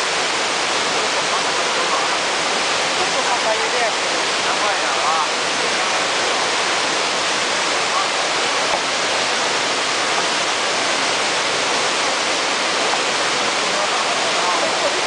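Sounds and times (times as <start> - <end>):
waterfall pouring over rocks: 0.0 - 15.0.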